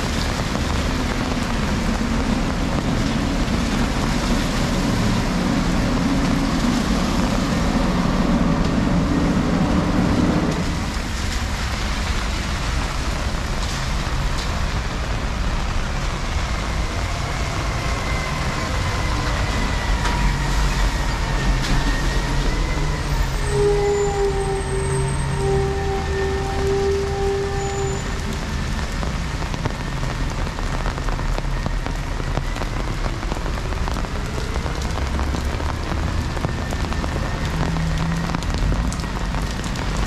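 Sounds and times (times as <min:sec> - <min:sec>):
heavy rain: 0:00.0 - 0:40.0
traffic on wet street: 0:00.0 - 0:40.0.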